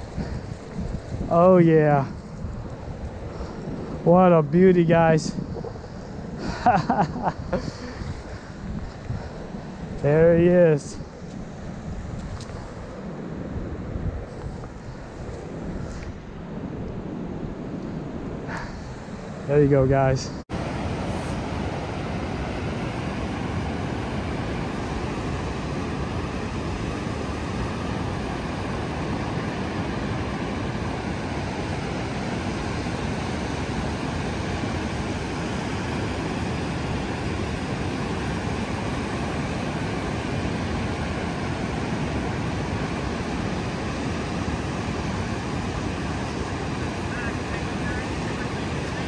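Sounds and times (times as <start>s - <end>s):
ocean surf breaking: 0.0s - 49.0s.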